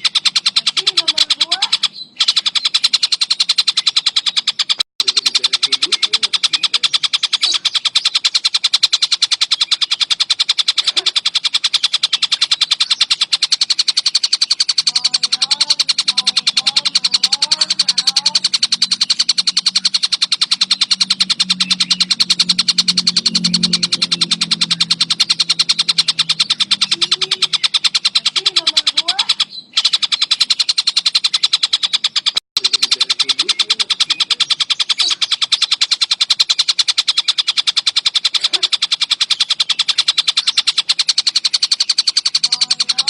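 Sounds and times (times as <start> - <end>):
bird rattling trill: 0.0 - 43.0.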